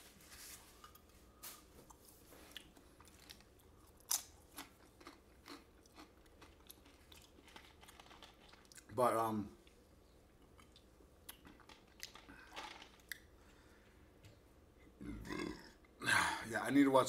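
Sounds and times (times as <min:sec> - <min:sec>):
person chewing food: 0:00.8 - 0:08.9, 0:10.4 - 0:16.0.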